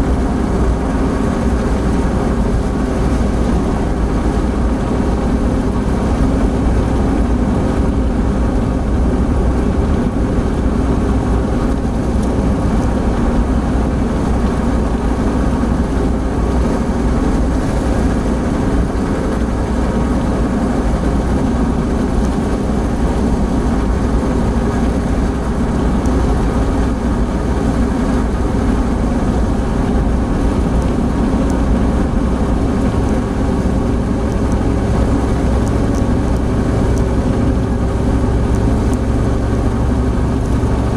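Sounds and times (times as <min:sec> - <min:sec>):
car engine running: 0:00.0 - 0:40.9
tyre and wind noise: 0:00.0 - 0:40.9.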